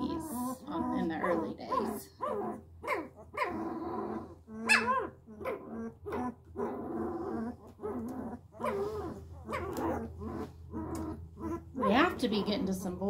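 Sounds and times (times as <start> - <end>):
puppy whining and squealing: 0.0 - 12.6.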